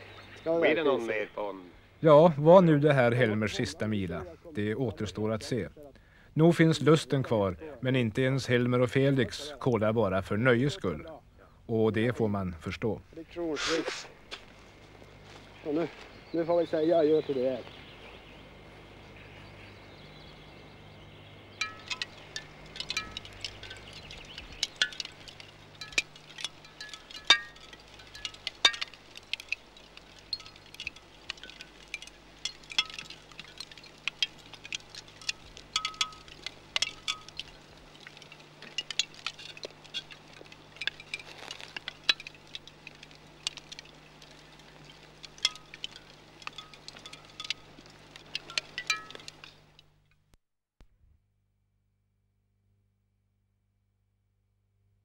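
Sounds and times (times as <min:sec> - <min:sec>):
faint low hum: 0:00.0 - 0:50.2.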